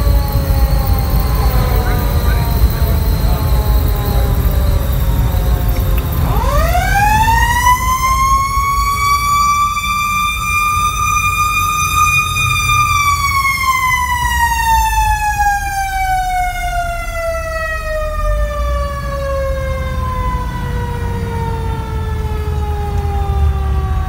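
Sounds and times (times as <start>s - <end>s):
fire engine siren wailing: 0.0s - 24.0s
truck engine and road rumble: 0.0s - 24.0s.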